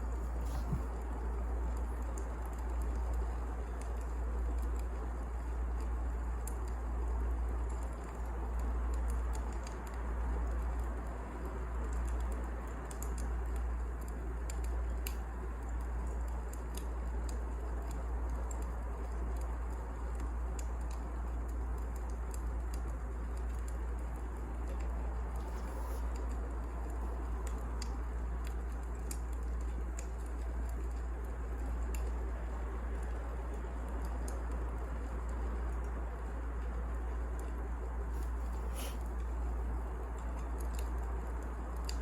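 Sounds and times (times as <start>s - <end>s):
fire crackling and popping: 0.0s - 42.0s
fire rumbling: 0.0s - 42.0s.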